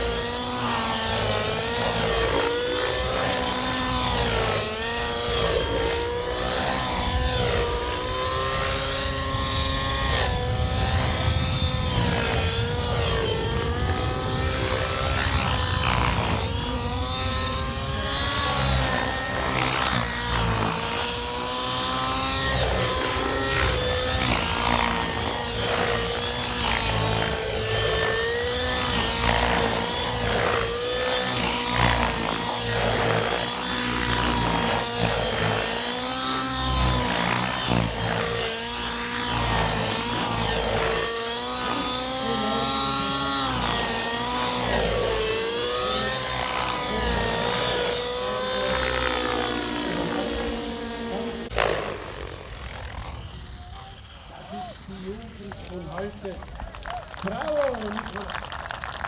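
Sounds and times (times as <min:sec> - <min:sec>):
model helicopter rotor and motor: 0:00.0 - 0:59.0.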